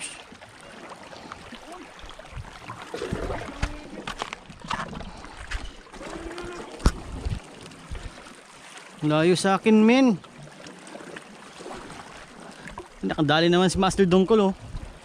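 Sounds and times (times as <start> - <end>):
water lapping against boat: 0.0 - 15.0.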